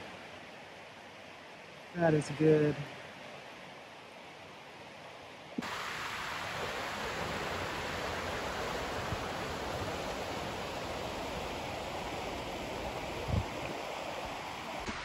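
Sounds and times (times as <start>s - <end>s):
river water rushing over rapids: 0.0s - 15.0s.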